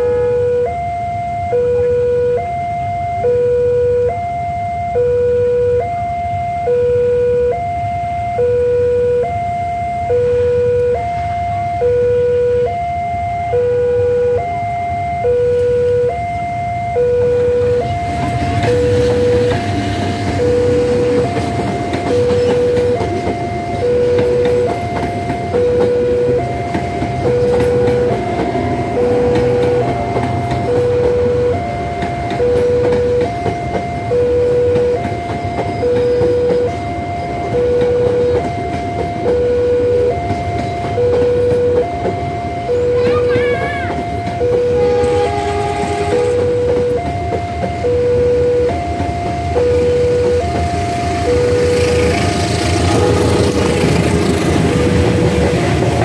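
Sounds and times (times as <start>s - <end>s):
passenger train rumbling over rails: 0.0s - 3.0s, 7.4s - 56.0s
level crossing two-tone alarm: 0.0s - 56.0s.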